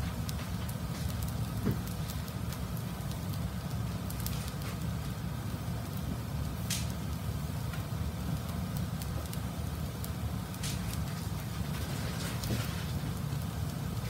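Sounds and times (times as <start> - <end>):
rice crackling in frying pan: 0.0 - 14.0.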